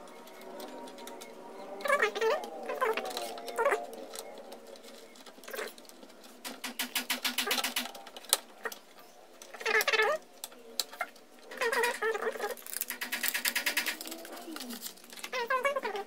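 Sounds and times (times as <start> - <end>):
computer case parts clicking: 0.0 - 15.3.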